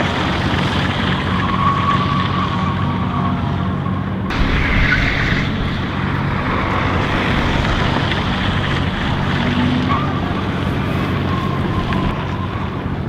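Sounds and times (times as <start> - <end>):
small car engine droning: 0.0 - 13.0.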